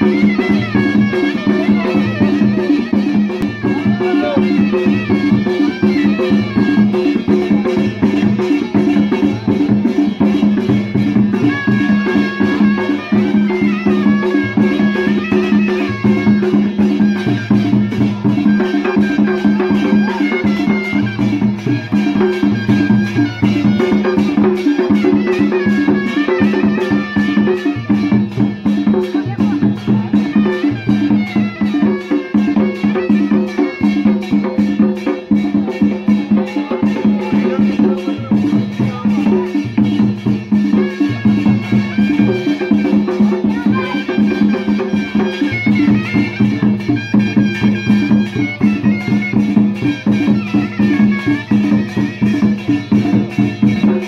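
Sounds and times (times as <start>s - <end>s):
drum beating steady rhythm: 0.0s - 54.0s
reed pipe melody: 0.0s - 54.0s.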